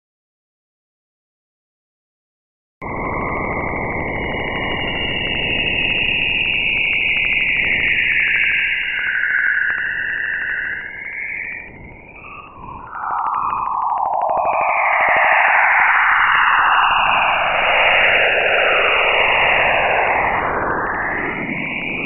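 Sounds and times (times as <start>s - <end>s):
noisy whistling sinking in pitch: 2.8s - 22.0s.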